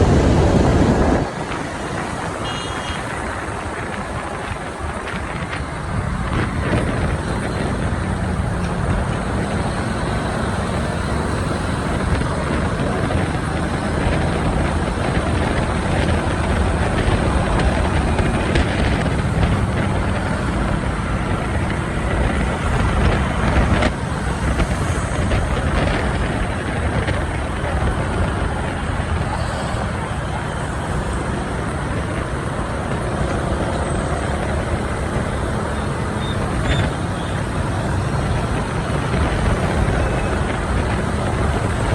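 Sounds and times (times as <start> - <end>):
city traffic: 0.0 - 41.9
motorbike engine and tyres: 0.0 - 41.9.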